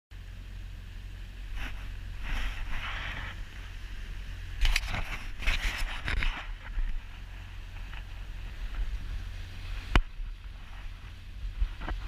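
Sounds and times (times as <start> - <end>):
motorboat low rumble: 0.1 - 12.0.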